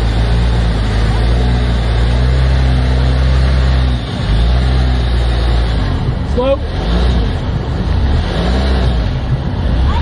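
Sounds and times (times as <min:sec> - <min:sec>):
engine running at low revs: 0:00.0 - 0:10.0.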